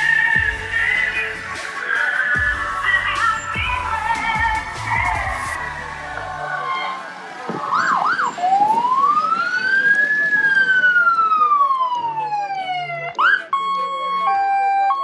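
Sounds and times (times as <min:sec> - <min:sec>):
fire engine siren wailing: 0:01.8 - 0:15.0.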